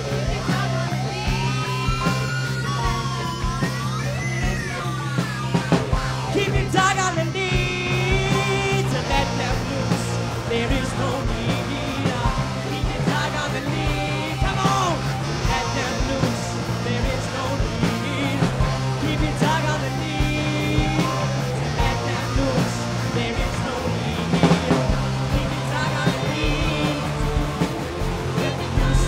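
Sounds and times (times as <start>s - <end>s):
instrumental rock song: 0.0s - 29.0s.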